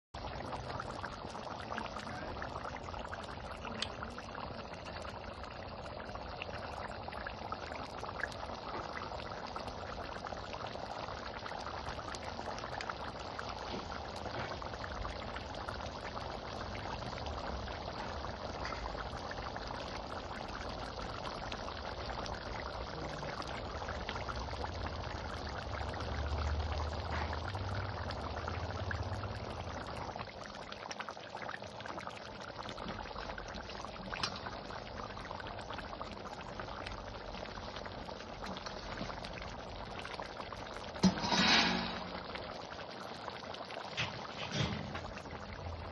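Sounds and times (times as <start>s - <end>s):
liquid bubbling in a pan: 0.2s - 45.9s.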